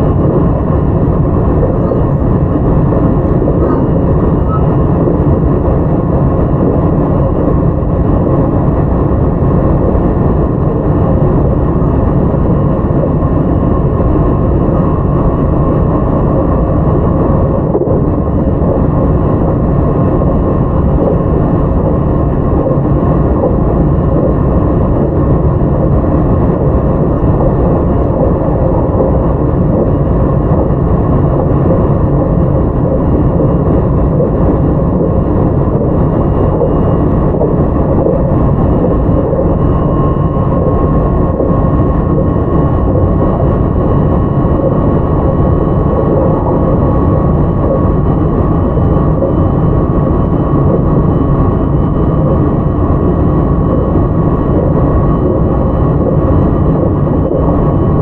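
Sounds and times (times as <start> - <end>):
faint steady motor tones: 0.0 - 58.0
train wheels rumbling on rail: 0.0 - 58.0.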